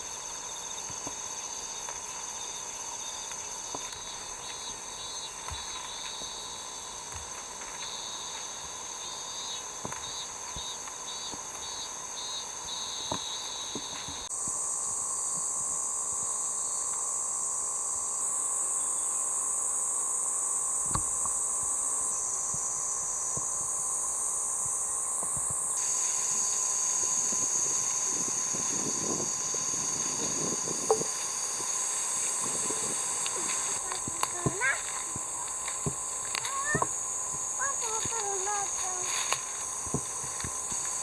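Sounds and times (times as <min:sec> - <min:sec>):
insects chorus: 0:00.0 - 0:41.0.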